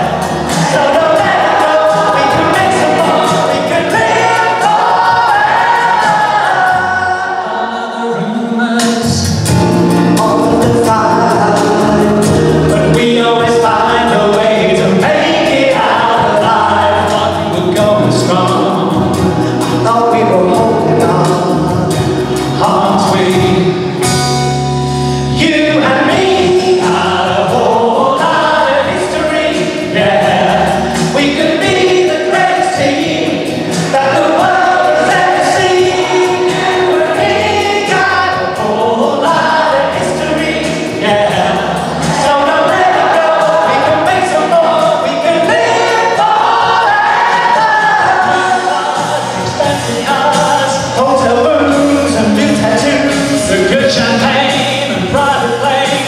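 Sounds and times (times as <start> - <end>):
large choir singing: 0.0 - 8.6, 9.6 - 24.0, 25.7 - 55.0.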